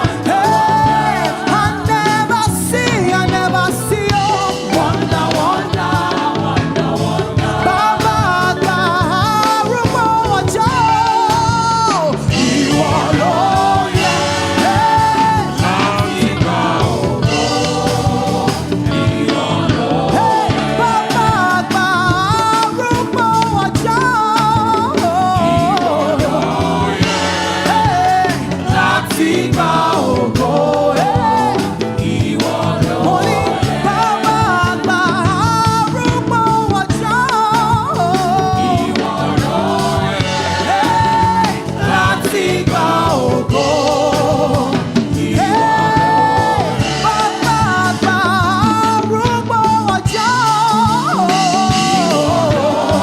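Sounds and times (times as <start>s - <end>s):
gospel band with singers: 0.0s - 53.0s.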